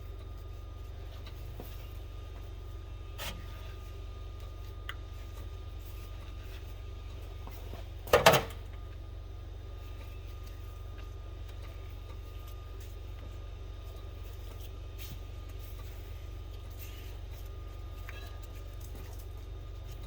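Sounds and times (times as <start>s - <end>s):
transmission low hum: 0.0s - 20.0s.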